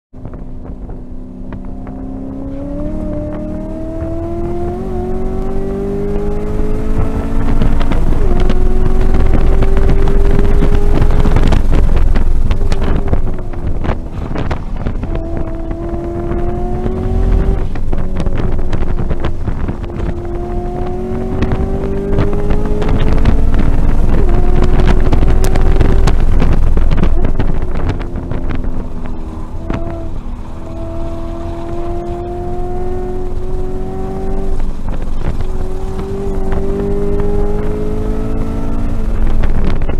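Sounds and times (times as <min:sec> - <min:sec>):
car engine under hard throttle: 0:00.1 - 0:39.9
wind and road noise: 0:00.1 - 0:39.9.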